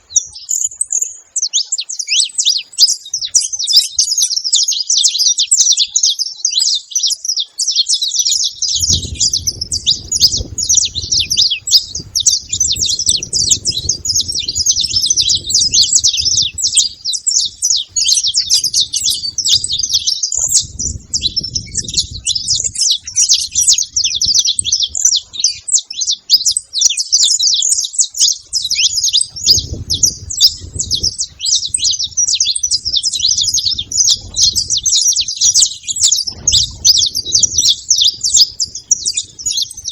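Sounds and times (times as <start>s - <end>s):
finch chirping and trilling: 0.0s - 39.9s.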